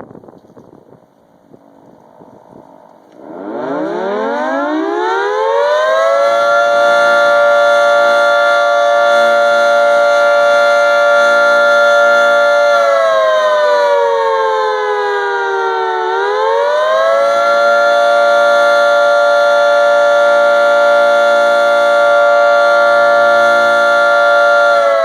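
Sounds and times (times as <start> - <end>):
tornado siren wailing: 0.0 - 25.0.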